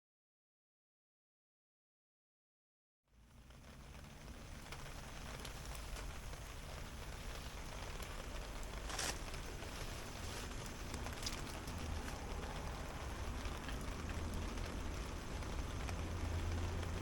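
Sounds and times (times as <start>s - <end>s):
rain falling: 3.1s - 17.0s.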